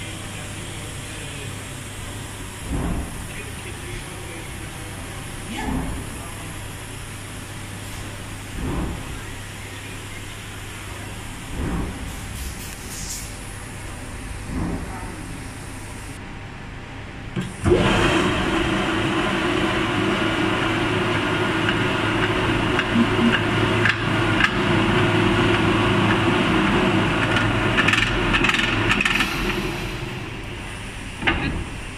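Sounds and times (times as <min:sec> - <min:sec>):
machine mechanical hum: 0:00.0 - 0:31.9.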